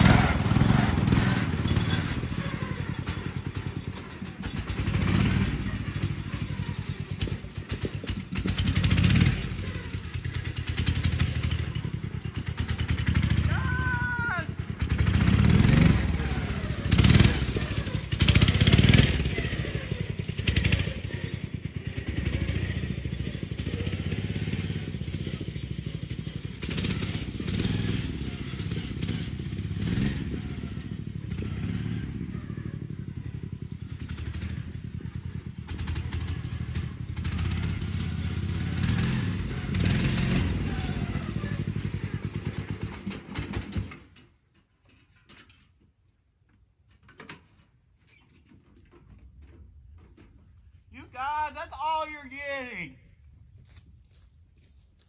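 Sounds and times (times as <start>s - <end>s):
lawnmower engine revving: 0.0s - 44.4s.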